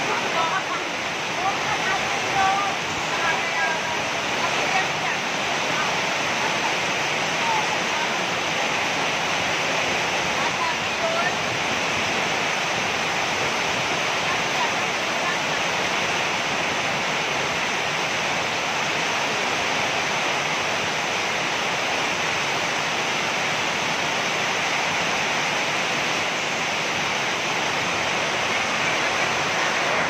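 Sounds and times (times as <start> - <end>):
heavy rain pouring: 0.0 - 30.0
strong wind: 0.0 - 30.0.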